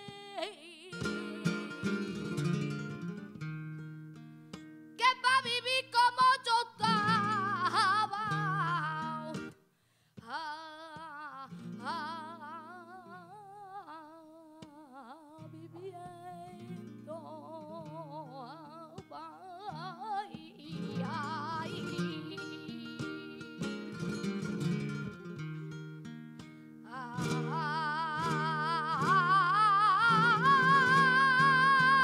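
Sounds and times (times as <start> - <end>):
woman singing melismatic lines: 0.0 - 3.0, 5.0 - 9.6, 10.2 - 25.5, 26.8 - 32.0
flamenco guitar strumming: 0.0 - 9.6, 10.9 - 13.8, 15.4 - 32.0.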